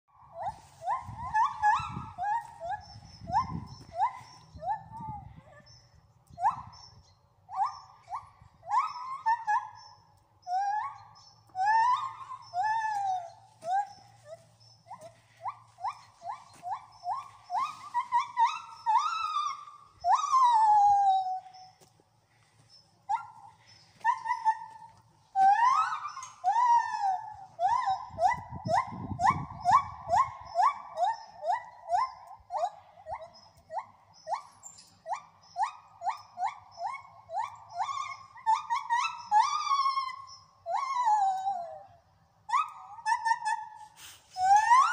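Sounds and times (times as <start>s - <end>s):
gibbons whooping: 0.2s - 5.8s, 7.5s - 9.8s, 10.4s - 21.7s, 23.0s - 44.9s.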